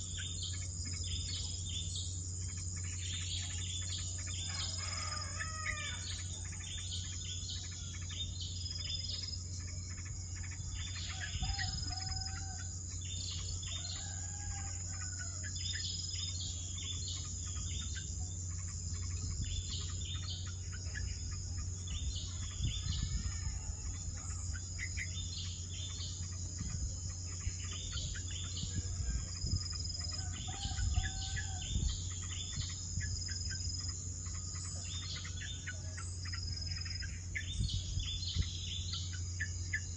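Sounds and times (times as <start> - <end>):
birds chirping: 0.0 - 39.9
high-pitched insect drone: 0.0 - 39.9.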